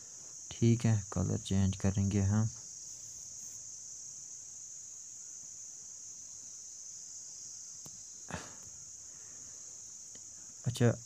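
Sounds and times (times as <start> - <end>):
steady high-pitched hiss: 0.0 - 11.0.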